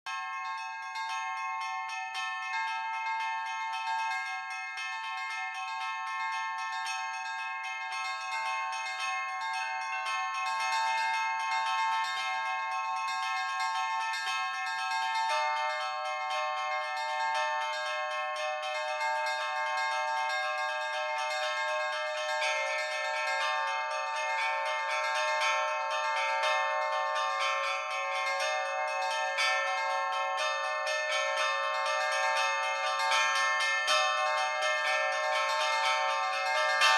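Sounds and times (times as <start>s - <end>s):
church bells ringing a peal: 0.1s - 36.9s.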